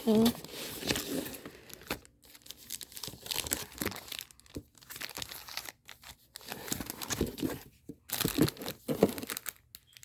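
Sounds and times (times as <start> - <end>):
sticker sheets crinkling and rustling: 0.0 - 10.0.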